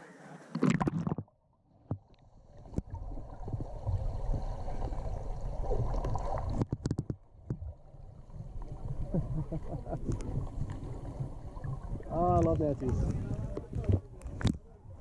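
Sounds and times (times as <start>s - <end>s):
muffled underwater rumble: 2.2s - 15.0s.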